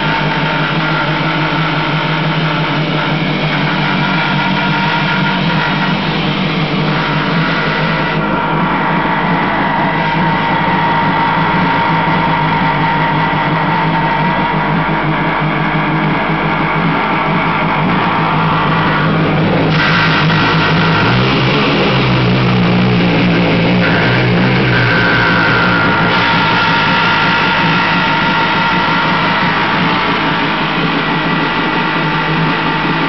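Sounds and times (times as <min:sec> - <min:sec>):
jet ski engine running: 0:00.0 - 0:33.0
low rumble: 0:00.0 - 0:33.0.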